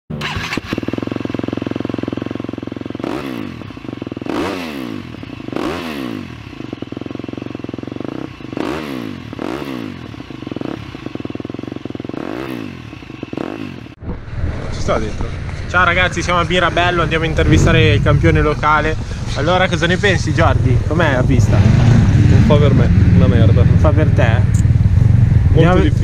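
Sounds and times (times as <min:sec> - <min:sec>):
motocross engine revving: 0:00.1 - 0:14.0, 0:15.1 - 0:26.0.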